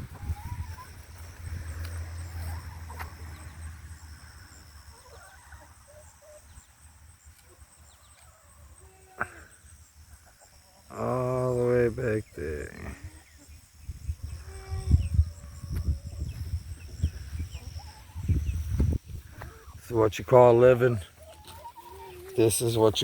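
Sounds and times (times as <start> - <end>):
farm animal and bird calls: 0.0 - 23.0
insect chirping: 0.0 - 23.0.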